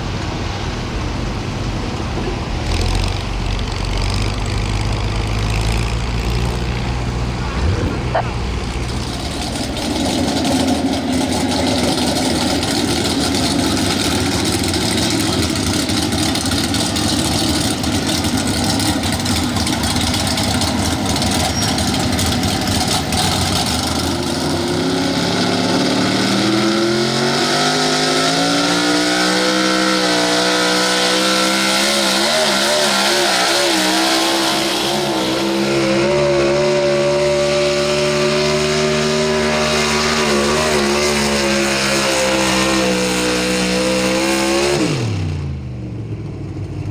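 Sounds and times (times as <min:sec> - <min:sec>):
truck engine running hard: 0:00.0 - 0:46.9.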